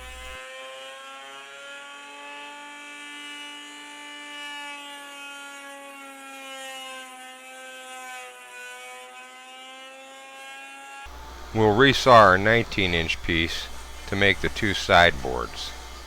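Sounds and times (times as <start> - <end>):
electric wood router whine: 0.0 - 16.0.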